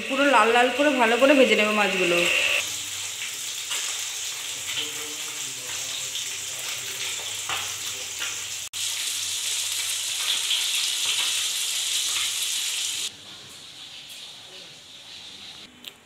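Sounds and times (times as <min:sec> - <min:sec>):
fish sizzling in hot oil: 0:00.0 - 0:15.7.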